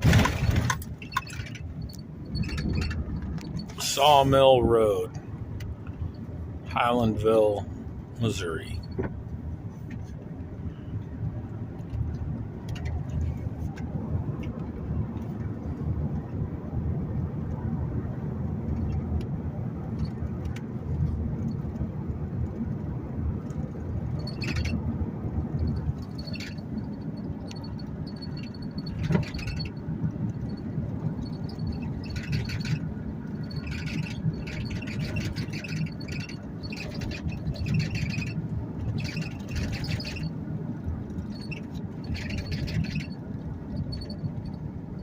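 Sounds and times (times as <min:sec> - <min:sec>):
engine and tyre rumble: 0:00.0 - 0:45.0.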